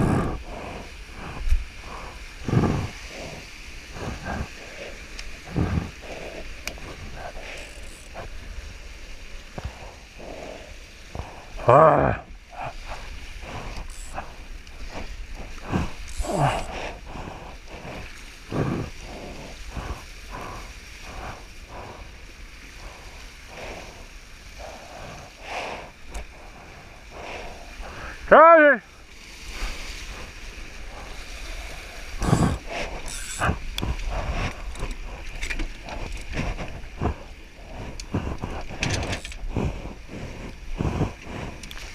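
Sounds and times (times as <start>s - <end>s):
wind buffeting microphone: 0.0s - 28.3s, 29.2s - 41.9s
water splashing against hulls: 0.0s - 41.9s.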